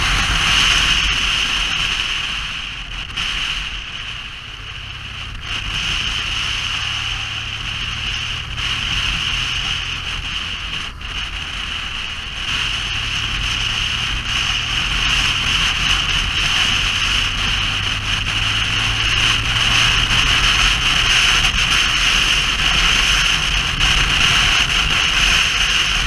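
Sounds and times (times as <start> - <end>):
rushing road noise: 0.0 - 26.0
vehicle engine hum: 0.0 - 26.0.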